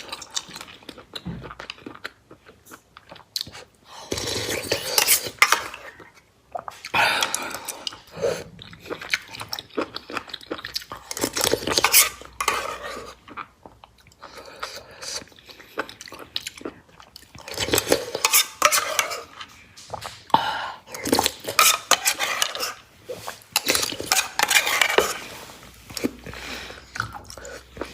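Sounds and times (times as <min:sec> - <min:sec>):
chewing: 0:00.0 - 0:27.9.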